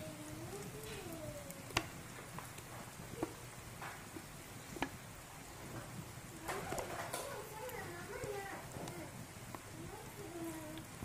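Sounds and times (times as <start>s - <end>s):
shallots and garlic sizzling: 0.0s - 11.0s.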